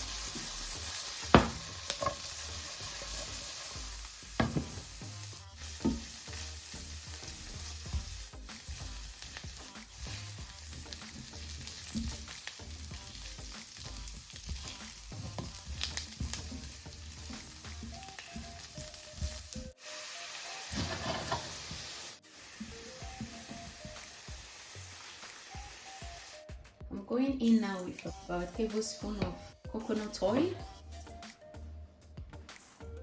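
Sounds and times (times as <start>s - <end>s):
asparagus sizzling in a frying pan: 0.0s - 26.4s.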